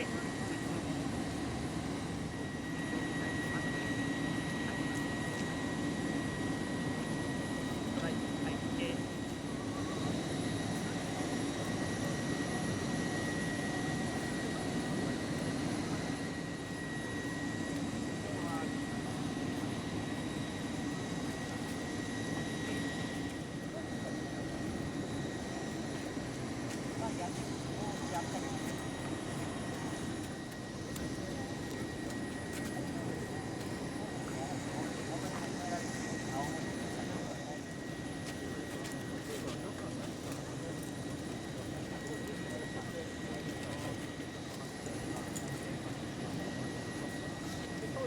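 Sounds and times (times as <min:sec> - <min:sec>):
aircraft engines droning: 0:00.0 - 0:48.0
faint voices: 0:00.0 - 0:48.0.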